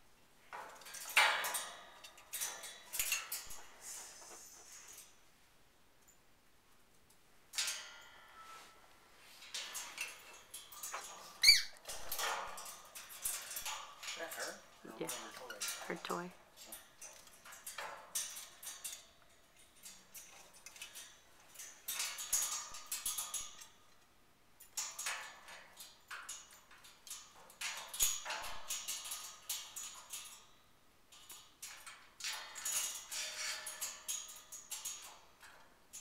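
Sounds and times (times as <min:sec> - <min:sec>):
parrot clicking and rattling cage: 0:00.5 - 0:03.8, 0:07.0 - 0:08.4, 0:09.4 - 0:36.0.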